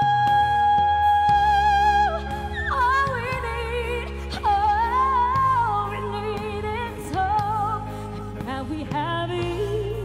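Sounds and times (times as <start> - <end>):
woman singing into microphone: 0.0 - 10.0.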